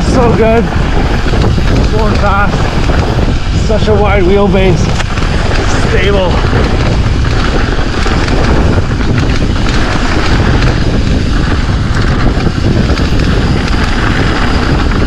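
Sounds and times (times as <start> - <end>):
bike knocking on rough trail: 0.0 - 15.0
bike tyres rolling over snow: 0.0 - 15.0
wind buffeting microphone: 0.0 - 15.0.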